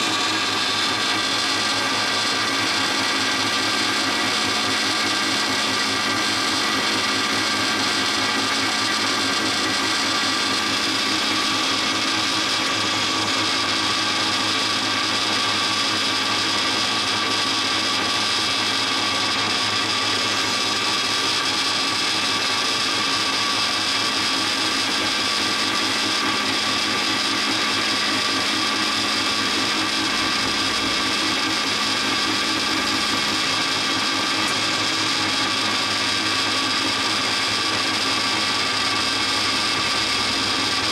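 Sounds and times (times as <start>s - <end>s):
band saw whining: 0.0s - 40.9s.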